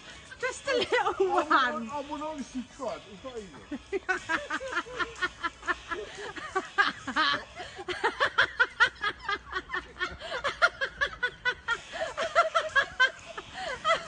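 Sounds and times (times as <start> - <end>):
people laughing and giggling: 0.0 - 14.0.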